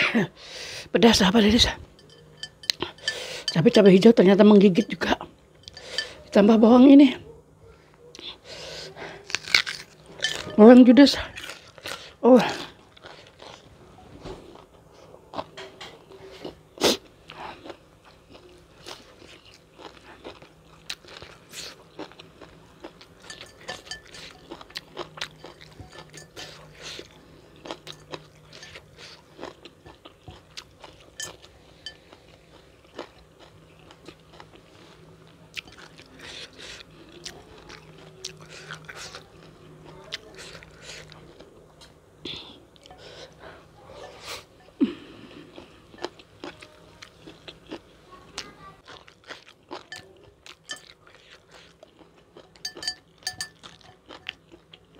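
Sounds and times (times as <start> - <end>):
crunching and chewing food: 7.9 - 43.4, 44.0 - 54.9.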